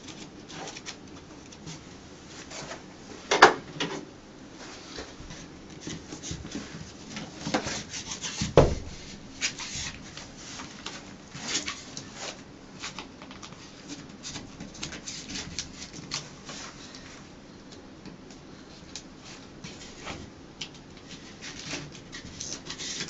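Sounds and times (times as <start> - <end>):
fabric scraping and rustling on wall: 0.0 - 17.4, 18.5 - 23.0.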